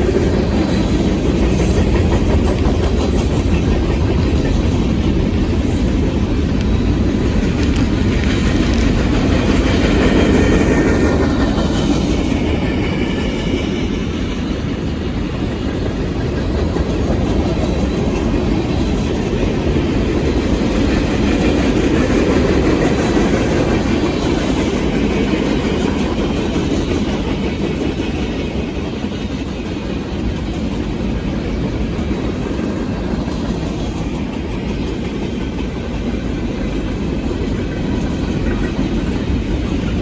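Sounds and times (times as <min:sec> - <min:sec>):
freight train cars rolling on rails: 0:00.0 - 0:40.0.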